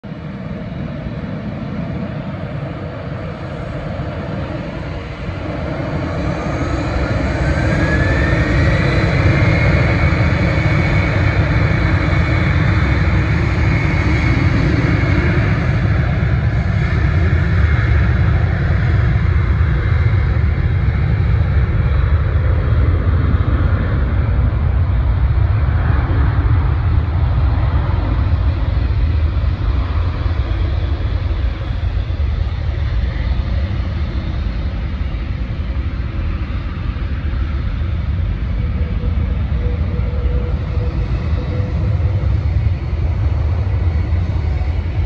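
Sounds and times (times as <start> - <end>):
jet engine roar: 0.0 - 45.0.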